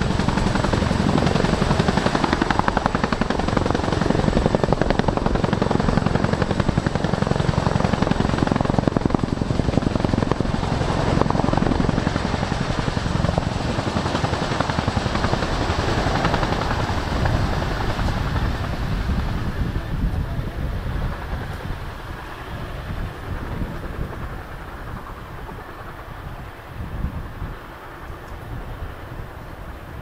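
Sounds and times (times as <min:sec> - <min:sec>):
helicopter rotors and engines running: 0:00.0 - 0:30.0.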